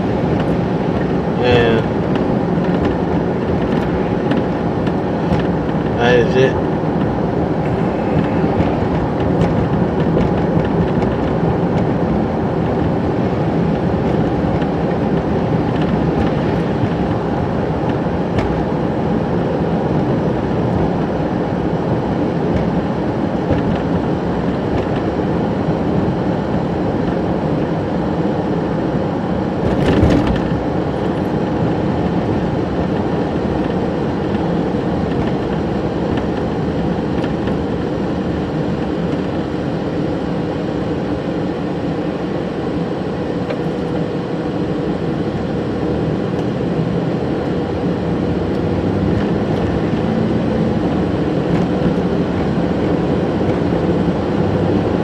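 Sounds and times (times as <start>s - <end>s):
road and engine noise: 0.0s - 55.0s.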